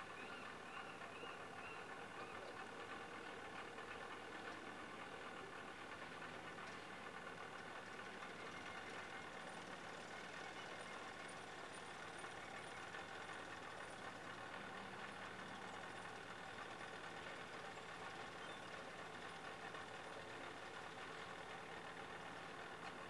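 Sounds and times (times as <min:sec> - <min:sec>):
engine idling hum: 0:00.0 - 0:23.0.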